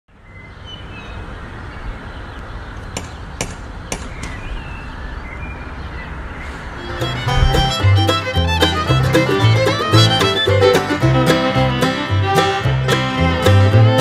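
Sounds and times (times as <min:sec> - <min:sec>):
steady outdoor hiss: 0:00.1 - 0:14.0.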